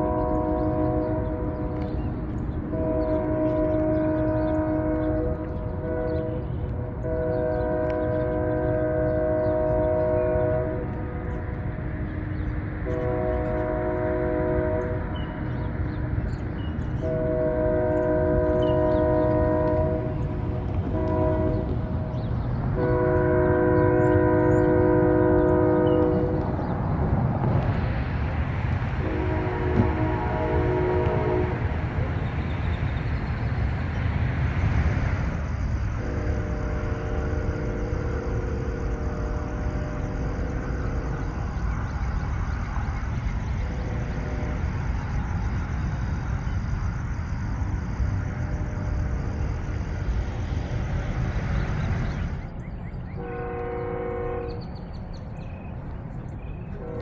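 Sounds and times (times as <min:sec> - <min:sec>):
distant train horn chord: 0:00.0 - 0:52.5, 0:53.1 - 0:55.8, 0:56.4 - 0:57.0.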